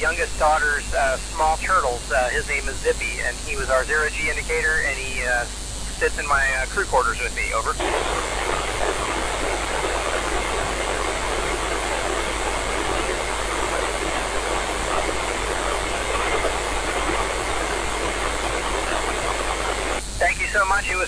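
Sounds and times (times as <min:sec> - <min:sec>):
faint steady tone: 0:00.0 - 0:21.0
radio static: 0:00.0 - 0:21.0.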